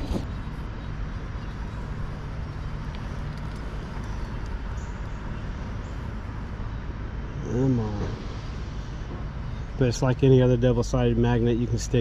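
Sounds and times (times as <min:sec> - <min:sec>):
low rumbling outdoor noise: 0:00.0 - 0:12.0.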